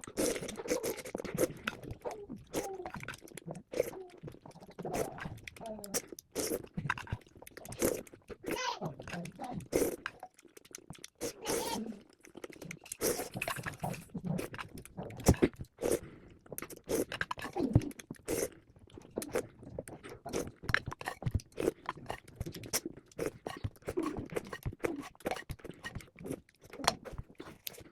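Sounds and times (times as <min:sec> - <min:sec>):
person chewing crunchy food: 0:00.0 - 0:27.9.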